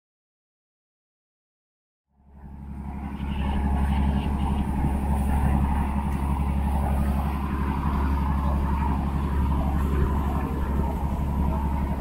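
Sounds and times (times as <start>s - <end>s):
boat engine droning: 2.1s - 12.0s.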